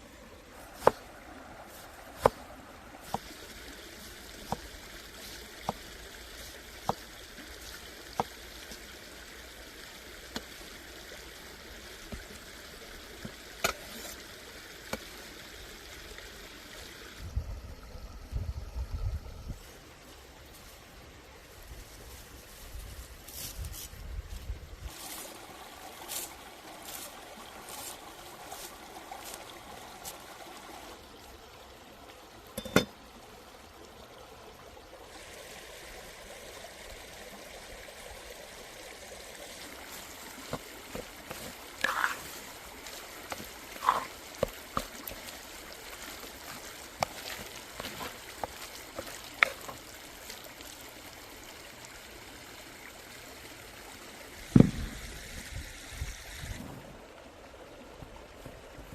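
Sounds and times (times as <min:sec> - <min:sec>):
water trickling: 0:00.0 - 0:20.7, 0:24.3 - 0:58.9.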